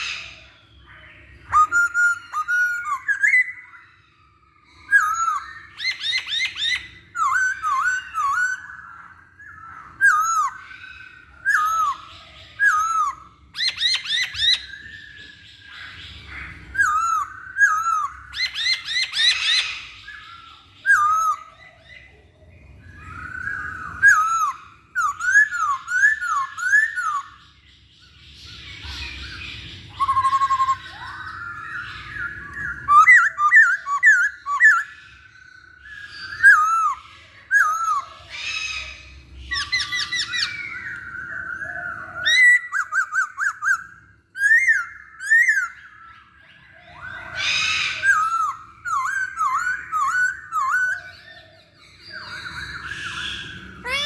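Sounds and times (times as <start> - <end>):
bird singing whistled notes: 0.0 - 54.0
harsh bird calls: 0.0 - 54.0.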